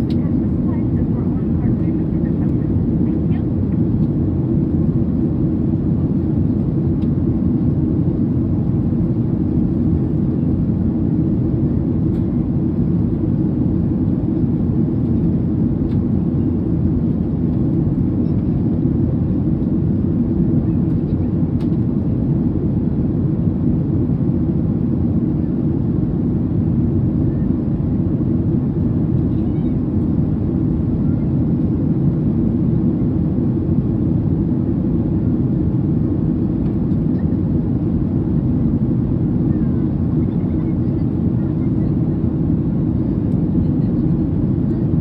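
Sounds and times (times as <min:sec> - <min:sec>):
airplane cabin rumble: 0:00.0 - 0:45.0.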